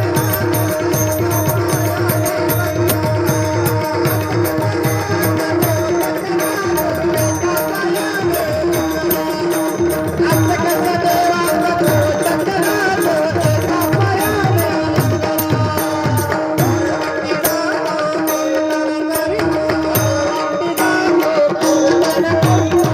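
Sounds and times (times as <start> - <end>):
tabla drumming: 0.0 - 22.9.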